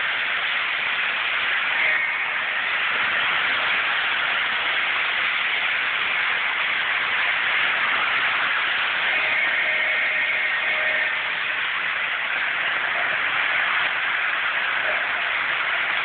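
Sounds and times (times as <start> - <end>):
model train running: 0.0 - 16.0.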